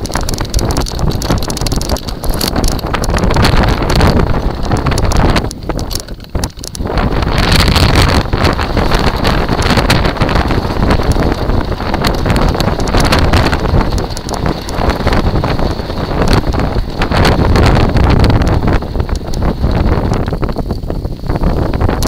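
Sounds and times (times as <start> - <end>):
wheels rattling over shingle: 0.0 - 22.0
wind buffeting microphone: 0.0 - 22.0.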